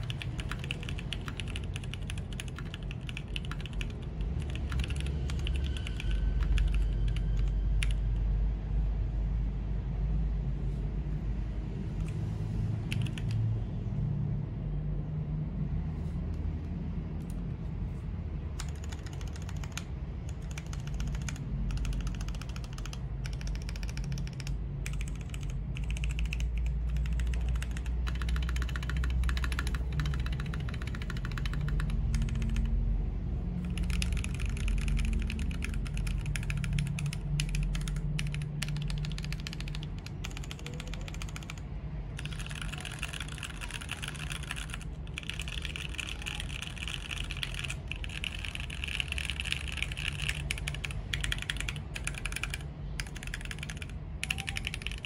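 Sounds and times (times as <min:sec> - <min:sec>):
mechanical keyboard typing: 0:00.0 - 0:08.2, 0:12.8 - 0:13.4, 0:18.6 - 0:32.8, 0:33.6 - 0:55.0.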